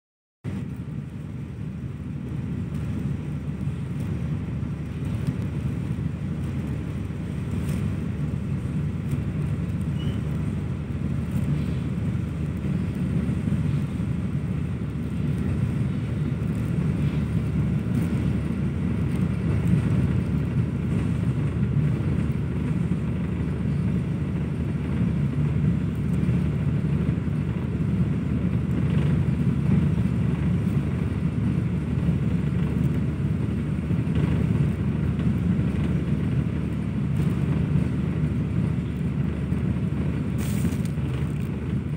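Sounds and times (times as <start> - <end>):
train wheels rumbling on rails: 0.5 - 41.9.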